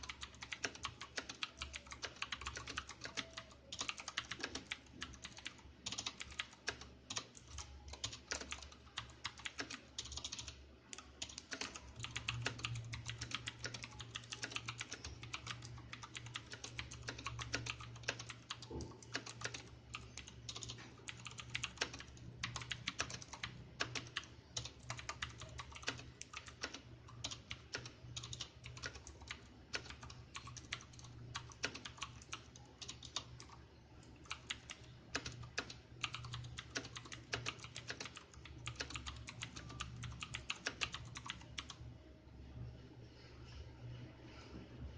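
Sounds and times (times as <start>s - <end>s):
mechanical keyboard typing: 0.0s - 41.8s.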